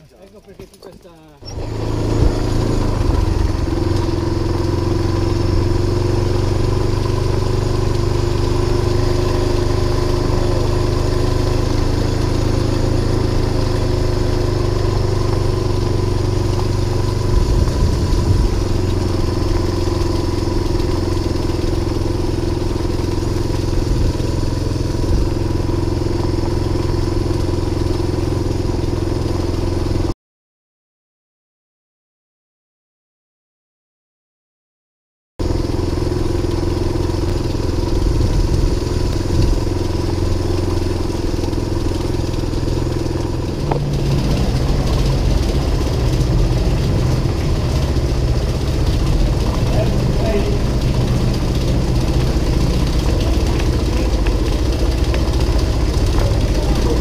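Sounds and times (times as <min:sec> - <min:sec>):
engine hum: 0:00.0 - 0:30.1, 0:35.4 - 0:57.0.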